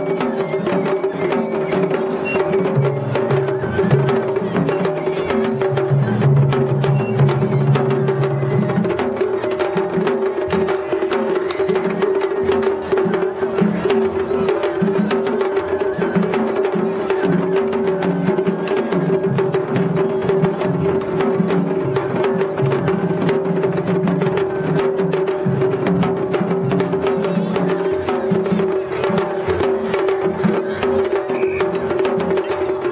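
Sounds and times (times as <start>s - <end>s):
taiko drums beating: 0.0s - 32.9s.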